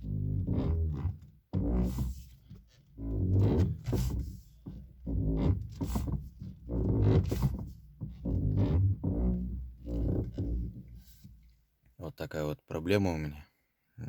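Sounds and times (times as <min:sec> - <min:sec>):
steering squeaking groans: 0:00.0 - 0:11.5.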